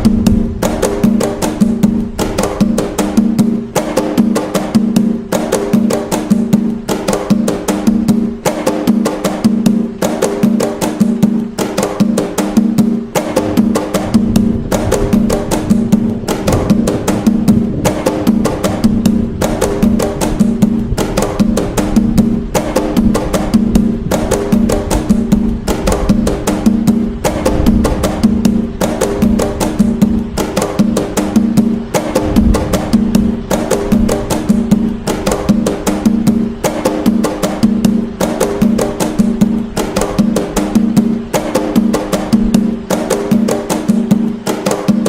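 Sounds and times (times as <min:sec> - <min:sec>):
hand drums playing fast rhythm: 0:00.0 - 0:45.0.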